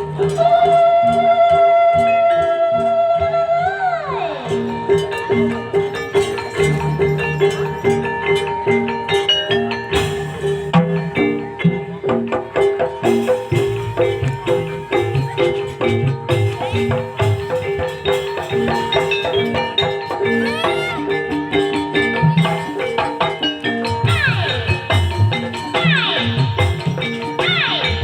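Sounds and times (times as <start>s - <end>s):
gamelan music: 0.0s - 28.0s
metallophone notes: 4.1s - 28.0s
drum strokes: 4.6s - 28.0s.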